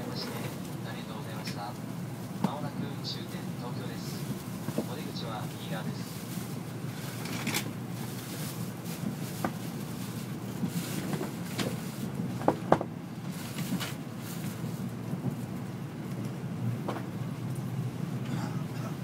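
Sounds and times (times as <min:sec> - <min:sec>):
train rumble inside cabin: 0:00.0 - 0:19.0.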